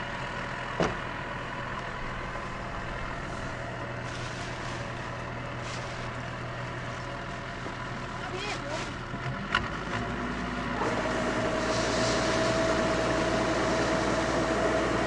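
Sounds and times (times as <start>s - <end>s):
diesel engine running steadily: 0.0s - 15.0s.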